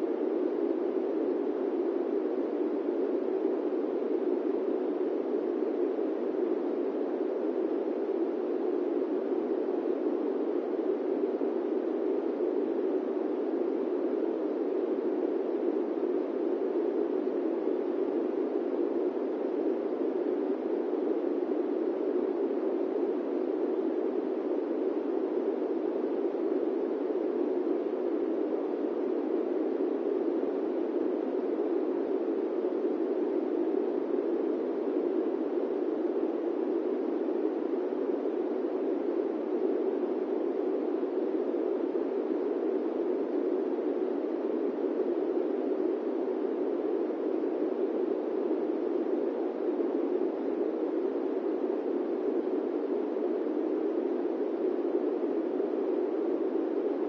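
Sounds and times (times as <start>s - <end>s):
airplane cabin white noise: 0.0s - 57.0s.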